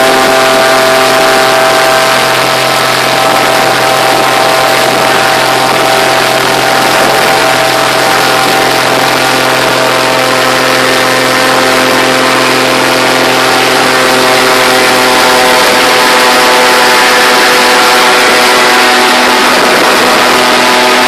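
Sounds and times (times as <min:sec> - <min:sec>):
airboat engine and propeller: 0:00.0 - 0:21.0.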